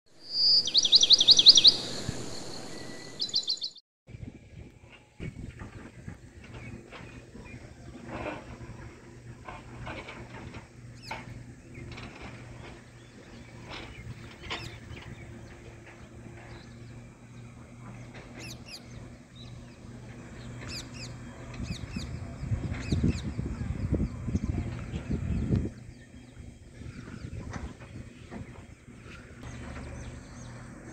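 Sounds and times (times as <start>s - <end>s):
birds chirping: 0.2s - 3.8s, 5.3s - 30.9s
loud irregular low rumbling: 4.1s - 30.9s
steady low hum: 4.1s - 30.9s.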